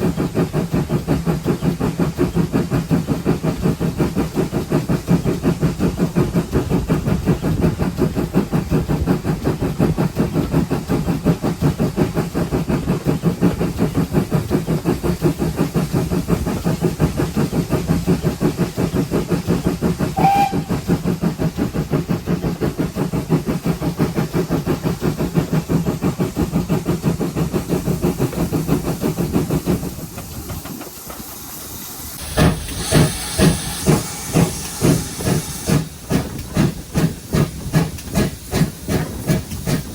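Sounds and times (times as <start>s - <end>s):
hissing steam beats: 0.0s - 39.9s
rail noise: 0.0s - 39.9s
steam locomotive exhaust beats: 0.0s - 39.9s.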